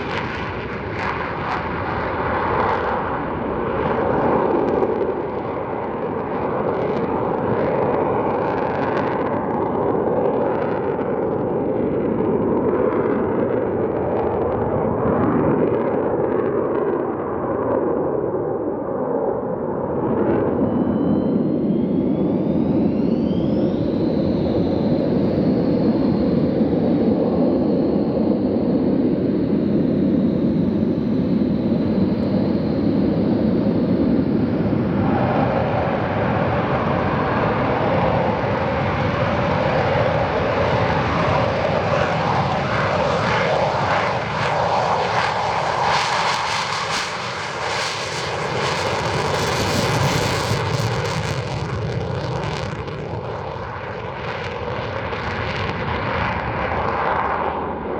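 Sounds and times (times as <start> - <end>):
turbojet spooling up whine: 0.0 - 14.9, 18.6 - 57.9
jet noise: 0.0 - 57.9.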